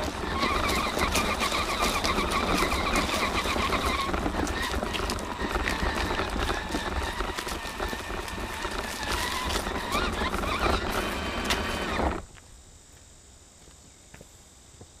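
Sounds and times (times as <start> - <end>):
electric motor whining: 0.0 - 12.3.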